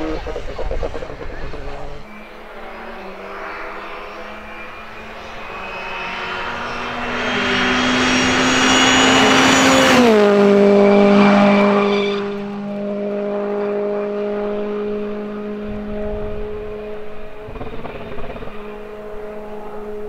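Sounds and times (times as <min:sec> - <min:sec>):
rally car engine at high revs: 0:00.0 - 0:20.0.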